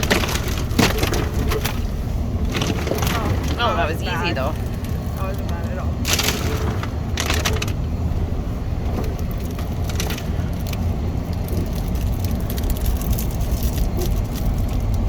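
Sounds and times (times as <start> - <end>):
branches cracking against vehicle: 0.0 - 15.0
vehicle rumbling on rough trail: 0.0 - 15.0.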